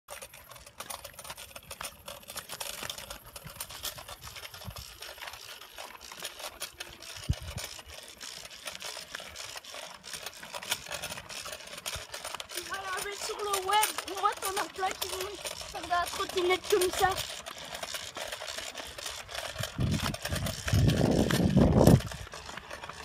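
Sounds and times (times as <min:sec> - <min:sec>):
scooter wheels rattling on asphalt: 0:00.1 - 0:23.0.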